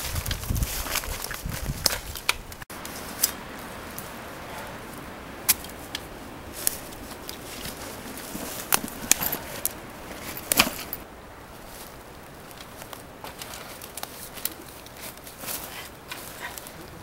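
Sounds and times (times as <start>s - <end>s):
footsteps in dry leaves: 0.0s - 17.0s.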